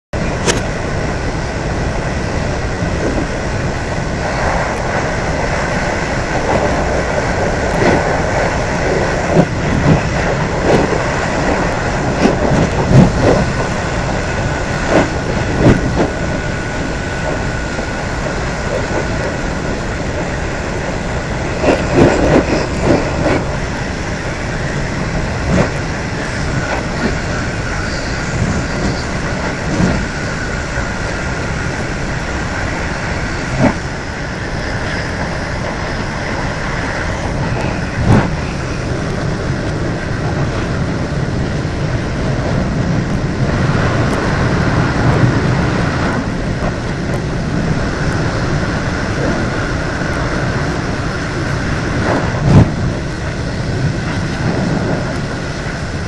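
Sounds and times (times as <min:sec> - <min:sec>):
train wheels rumbling on rail: 0:00.1 - 0:56.0
faint high whine: 0:00.2 - 0:56.0
wheels clattering on track: 0:00.2 - 0:56.0.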